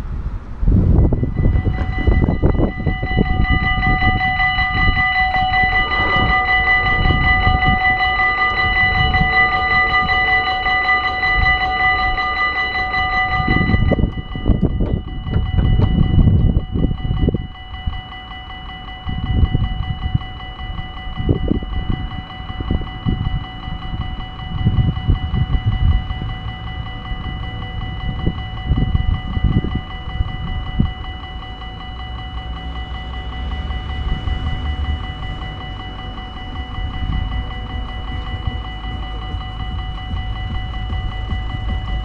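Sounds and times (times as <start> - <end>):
level-crossing warning bell ringing: 0.0 - 42.0
low rumbles: 0.0 - 42.0.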